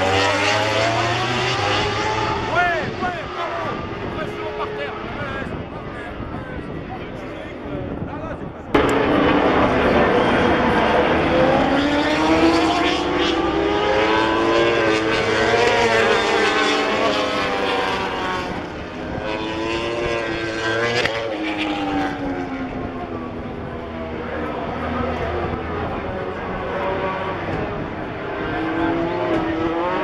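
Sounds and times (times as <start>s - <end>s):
racing motorcycles passing: 0.0s - 8.0s, 8.7s - 30.0s.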